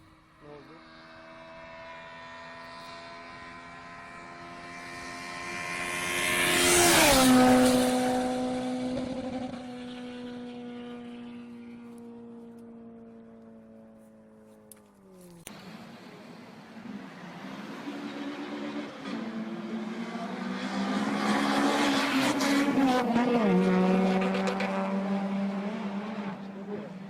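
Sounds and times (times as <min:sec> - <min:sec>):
car passing by: 0:00.6 - 0:12.4, 0:15.5 - 0:27.0.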